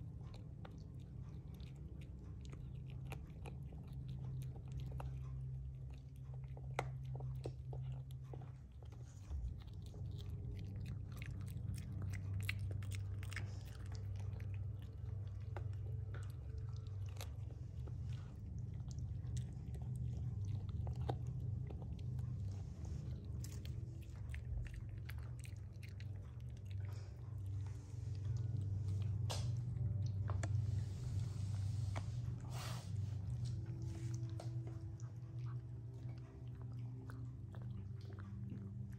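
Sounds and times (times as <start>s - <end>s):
dog gnawing on a chew bone: 0.0s - 38.9s
steady low hum: 0.0s - 38.9s.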